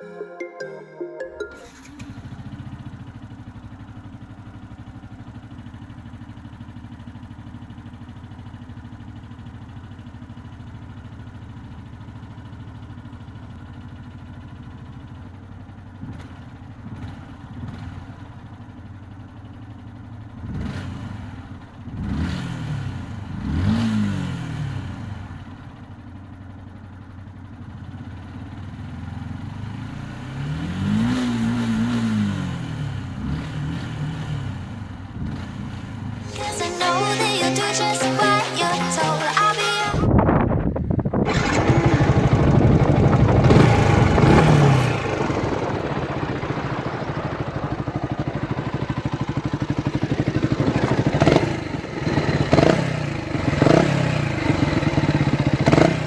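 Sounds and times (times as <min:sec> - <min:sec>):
motorcycle engine idling and revving: 0:01.6 - 0:39.3, 0:39.9 - 0:56.0.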